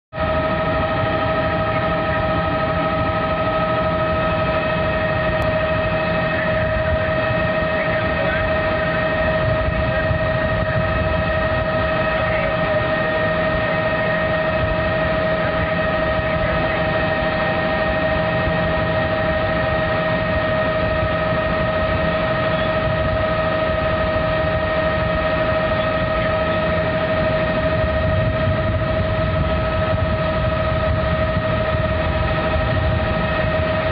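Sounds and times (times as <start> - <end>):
helicopter high whine: 0.1 - 33.9
helicopter rotor rumble: 0.1 - 33.9.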